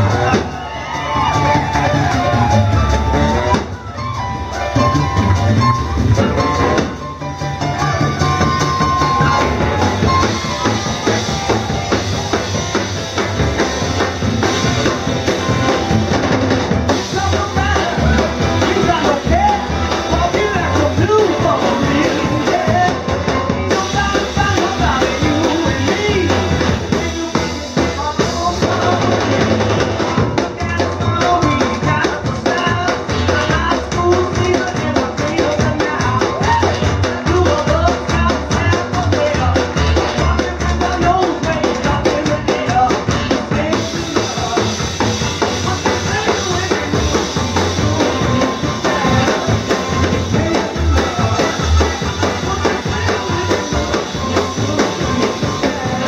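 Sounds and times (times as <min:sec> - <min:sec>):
drum kit beat: 0:00.0 - 0:56.0
rock and roll band playing: 0:00.0 - 0:56.0.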